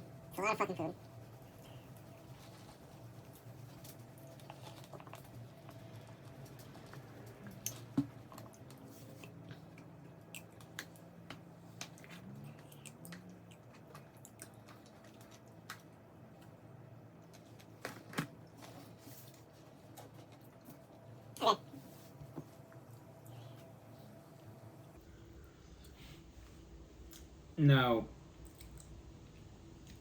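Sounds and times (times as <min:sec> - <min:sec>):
low steady hum: 0:00.0 - 0:30.0
close chewing and mouth sounds: 0:00.1 - 0:21.4, 0:22.4 - 0:25.0, 0:28.4 - 0:30.0.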